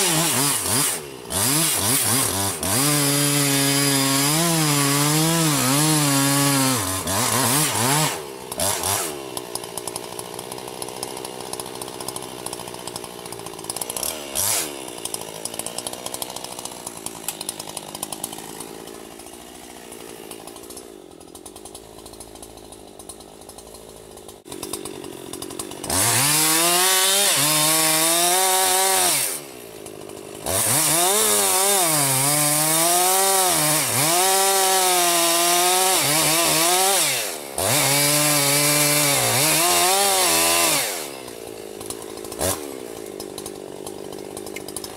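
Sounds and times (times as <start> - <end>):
chainsaw cutting at full throttle: 0.0 - 44.9.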